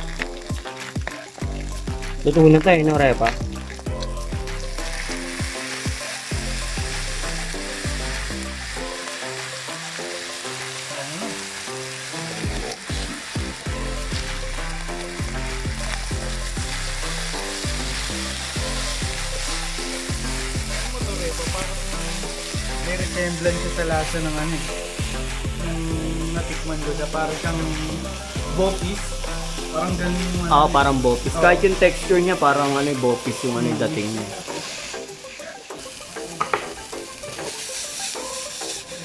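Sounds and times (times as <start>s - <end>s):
background music with steady beat: 0.0s - 39.0s
meat sizzling in a pan: 0.0s - 39.0s.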